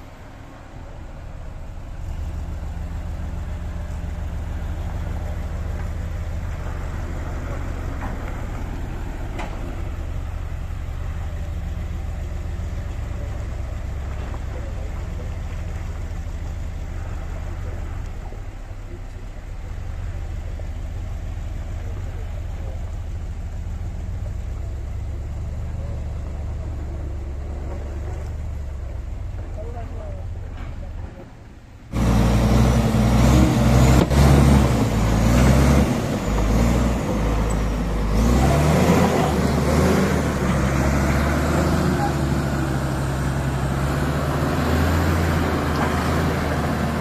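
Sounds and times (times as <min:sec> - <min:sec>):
diesel truck engine rumbling: 0:00.0 - 0:47.0.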